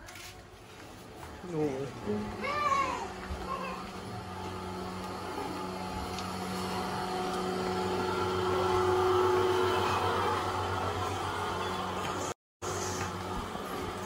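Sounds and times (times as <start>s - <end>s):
motor humming: 1.8s - 14.0s.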